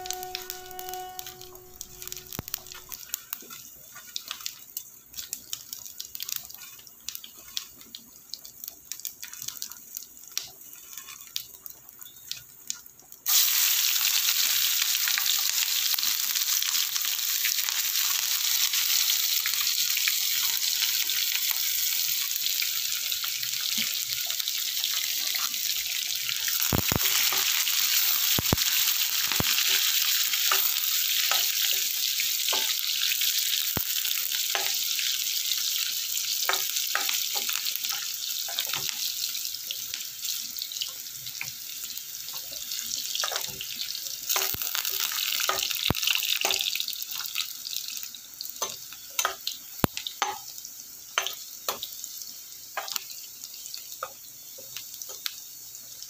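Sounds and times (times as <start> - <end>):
onions sizzling in oil: 0.0 - 56.0
spices crackling in hot oil: 0.0 - 56.0.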